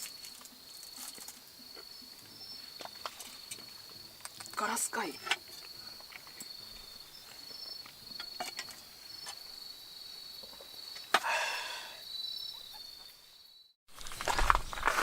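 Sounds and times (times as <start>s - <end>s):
night insects trilling: 0.0s - 13.7s.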